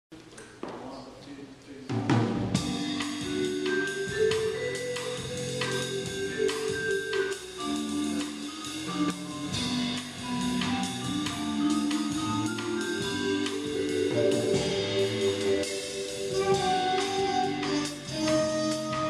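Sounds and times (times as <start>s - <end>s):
jazz band playing: 1.9s - 19.0s.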